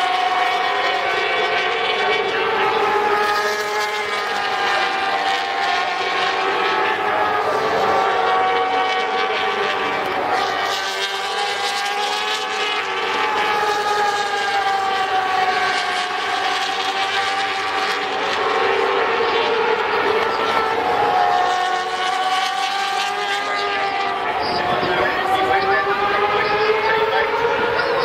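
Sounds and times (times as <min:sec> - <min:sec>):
racing motorcycles passing: 0:00.0 - 0:28.0.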